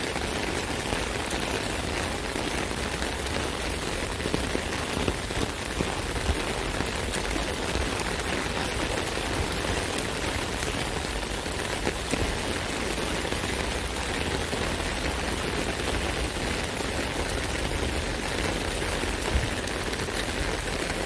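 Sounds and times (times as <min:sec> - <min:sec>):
rain on an umbrella: 0:00.0 - 0:21.0.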